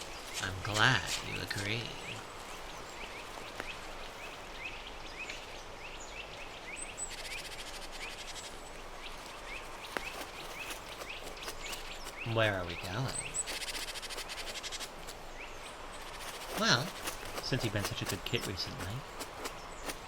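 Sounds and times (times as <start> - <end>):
small birds chirping: 0.0 - 20.0
steady background hiss: 0.0 - 20.0.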